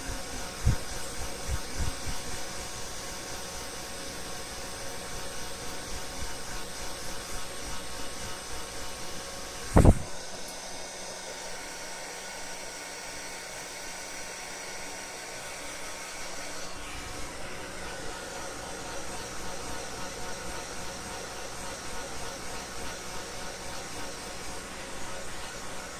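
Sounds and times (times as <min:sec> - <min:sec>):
hair dryer running: 0:00.0 - 0:25.9.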